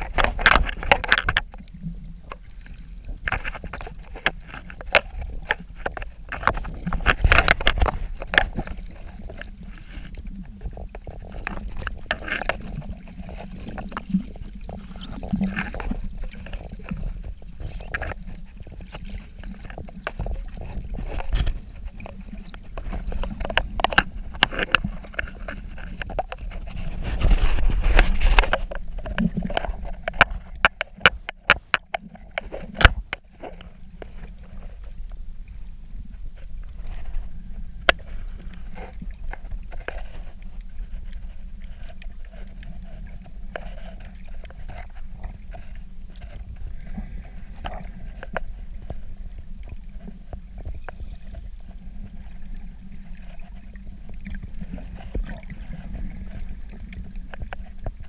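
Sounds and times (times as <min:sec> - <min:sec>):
muffled underwater rumble: 0:00.0 - 0:58.0
underwater clicks and crackles: 0:00.0 - 0:58.0.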